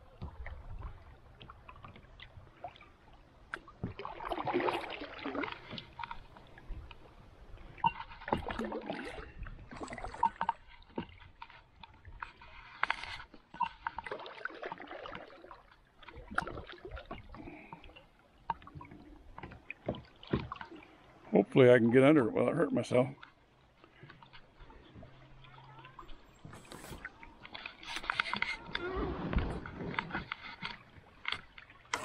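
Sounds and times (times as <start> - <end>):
paddle strokes splashing: 0.0 - 22.1, 22.9 - 32.0.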